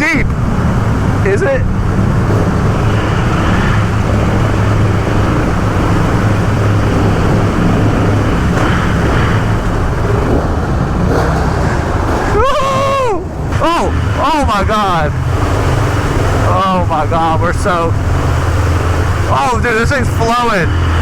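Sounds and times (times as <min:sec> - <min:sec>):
dirt bike engine at low revs: 0:00.0 - 0:21.0
rushing water: 0:00.0 - 0:21.0.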